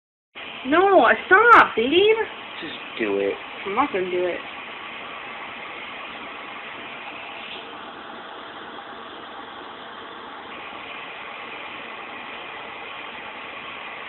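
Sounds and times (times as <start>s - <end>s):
faint hum: 0.4s - 14.0s
room noise hiss: 0.4s - 14.0s.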